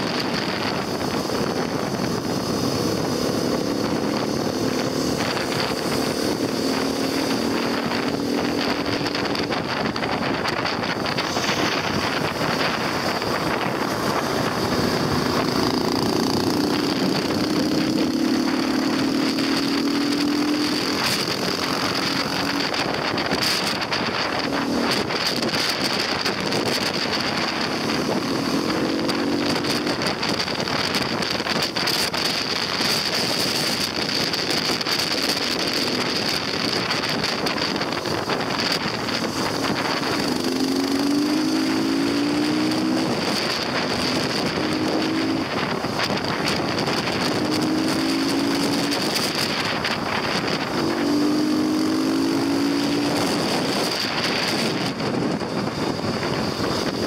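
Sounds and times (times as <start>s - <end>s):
motorcycle engine accelerating: 0.0s - 57.0s
steady high whine: 0.0s - 57.0s
wind rushing on microphone: 0.0s - 57.0s.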